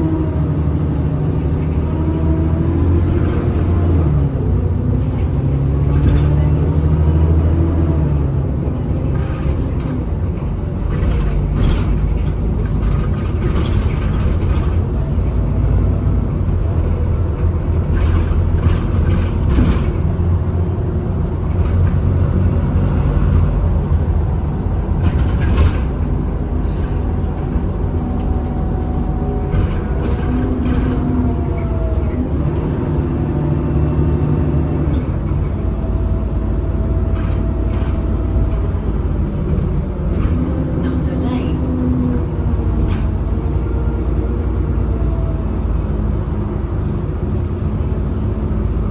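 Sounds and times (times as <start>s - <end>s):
bus engine running: 0.0s - 48.9s
short rattles and knocks: 1.5s - 7.0s, 8.6s - 43.8s.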